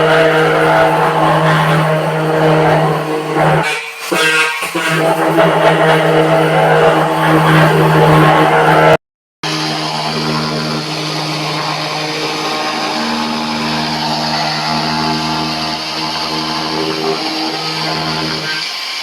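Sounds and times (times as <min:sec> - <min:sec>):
small motor humming: 0:00.0 - 0:19.0.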